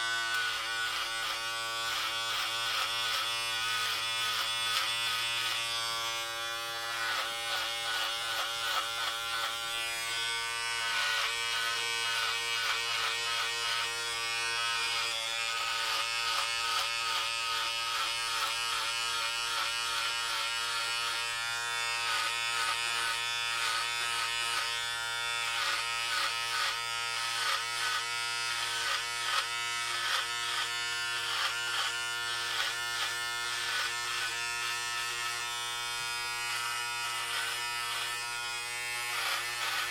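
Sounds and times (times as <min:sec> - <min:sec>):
clippers rasping through hair: 0:00.0 - 0:39.9
electric hair clippers buzzing: 0:00.0 - 0:39.9.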